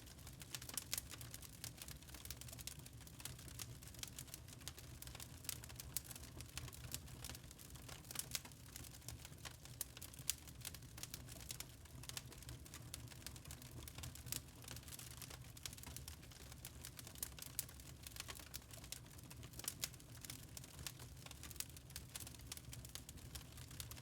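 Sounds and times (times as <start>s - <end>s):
log fire crackling: 0.0s - 24.0s.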